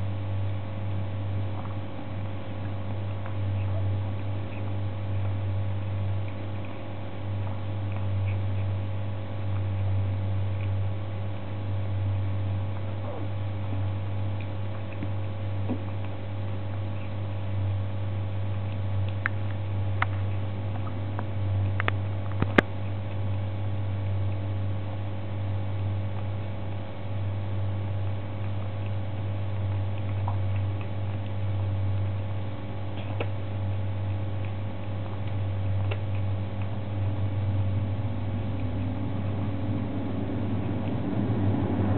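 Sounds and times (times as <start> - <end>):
kitten chewing: 0.0 - 41.9
low hum: 0.0 - 41.9.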